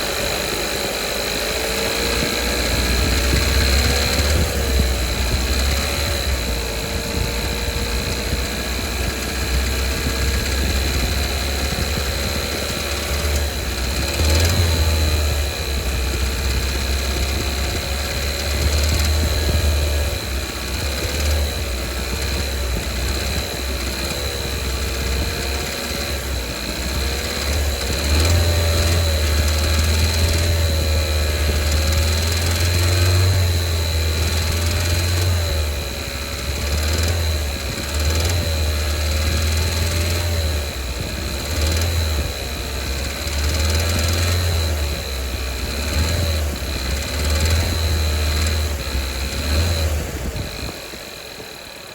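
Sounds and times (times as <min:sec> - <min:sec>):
car engine revving: 0:00.0 - 0:51.9
engine ticking: 0:00.0 - 0:51.9.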